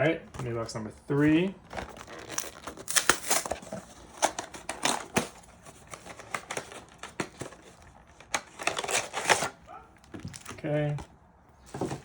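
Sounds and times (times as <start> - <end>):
foil packs crinkling: 0.4 - 10.9.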